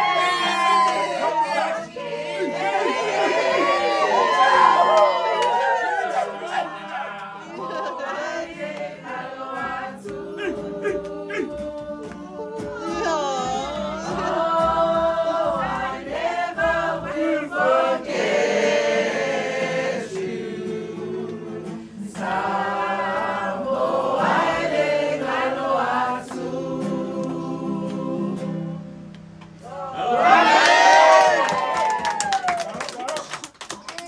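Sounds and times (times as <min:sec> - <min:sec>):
group singing together: 0:00.0 - 0:29.1
ukulele: 0:00.0 - 0:29.7.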